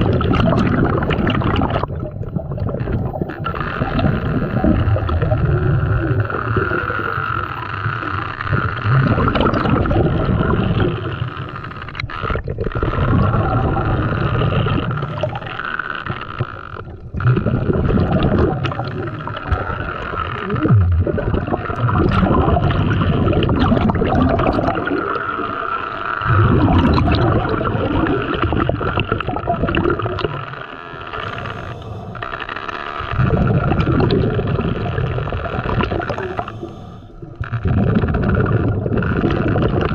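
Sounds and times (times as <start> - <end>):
underwater gurgling and sloshing: 0.0 - 39.9.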